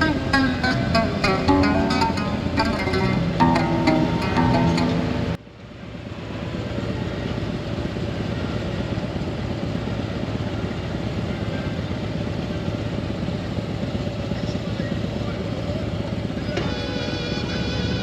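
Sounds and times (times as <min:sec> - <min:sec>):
motorcycle engine running: 0:00.0 - 0:05.4, 0:06.0 - 0:18.0.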